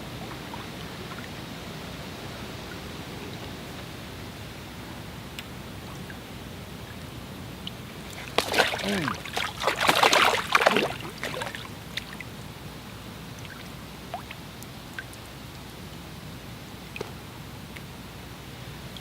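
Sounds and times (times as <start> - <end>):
water splashing and sloshing: 0.0 - 3.6, 5.4 - 18.0.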